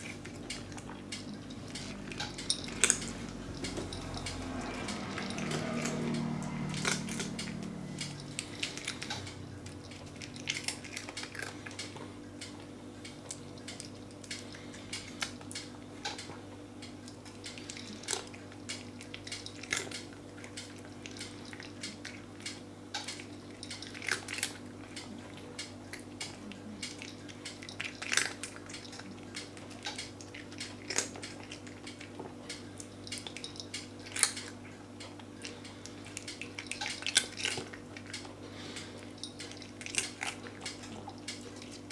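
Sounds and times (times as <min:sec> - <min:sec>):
cat crunching dry treats: 0:00.0 - 0:12.6, 0:17.5 - 0:41.9
steady low hum: 0:00.0 - 0:41.9.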